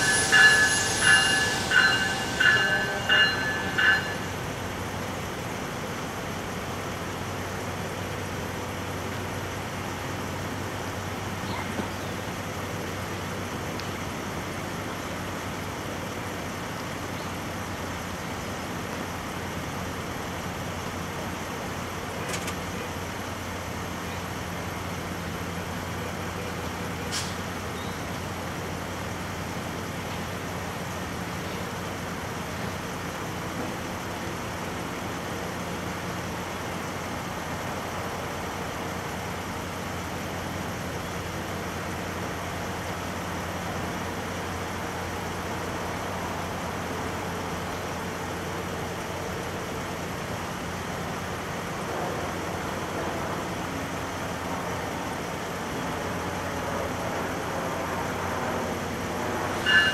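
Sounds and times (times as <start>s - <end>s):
road traffic noise: 0.0s - 59.9s
train idling hum: 0.0s - 59.9s.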